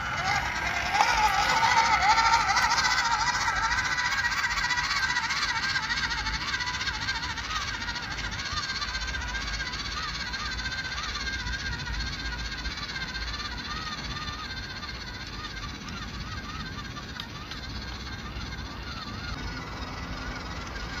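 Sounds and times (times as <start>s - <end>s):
rc truck motor whining: 0.0s - 21.0s.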